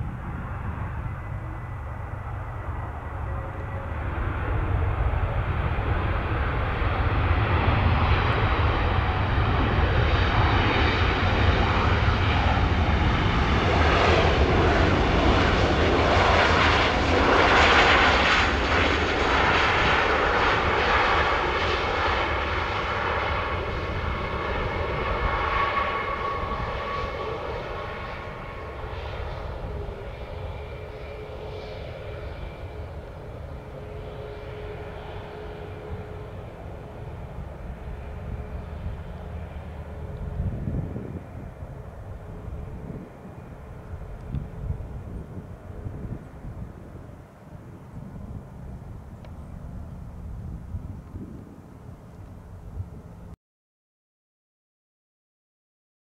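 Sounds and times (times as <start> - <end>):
jet passing by: 0.0 - 53.4.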